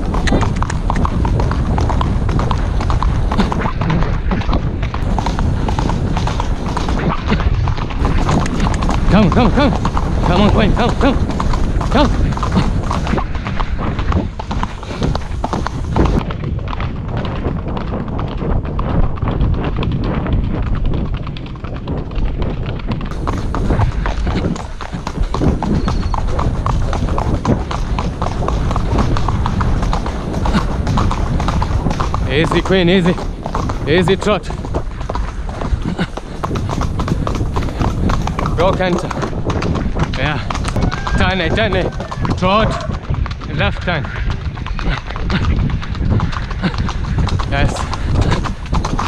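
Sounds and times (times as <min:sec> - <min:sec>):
horse hooves on dirt: 0:00.0 - 0:49.0
wind on microphone: 0:00.0 - 0:49.0.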